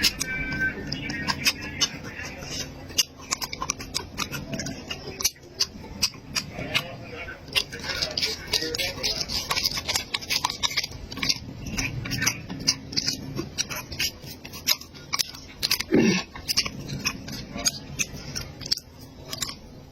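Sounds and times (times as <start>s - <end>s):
chewing and biting food: 0.0s - 19.9s.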